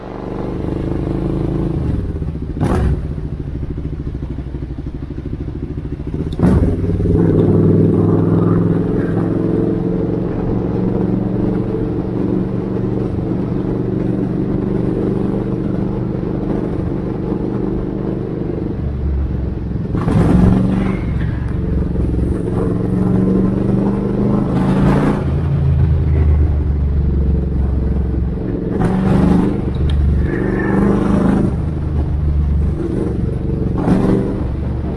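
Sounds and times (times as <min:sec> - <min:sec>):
motorcycle engine revving: 0:00.0 - 0:34.9
short rushing noises: 0:06.4 - 0:34.9.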